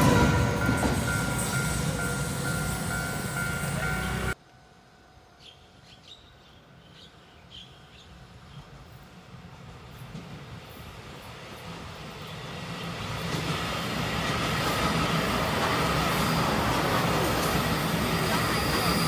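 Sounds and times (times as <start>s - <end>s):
train rumble: 0.0s - 4.4s, 8.1s - 19.0s.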